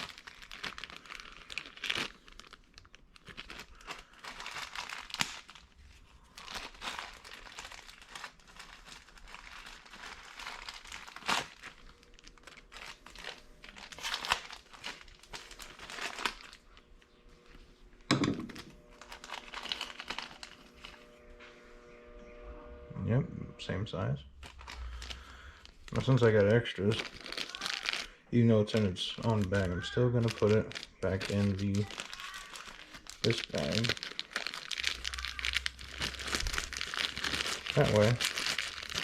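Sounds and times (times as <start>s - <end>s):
plastic bag crinkling: 0.0s - 22.1s, 24.3s - 39.0s.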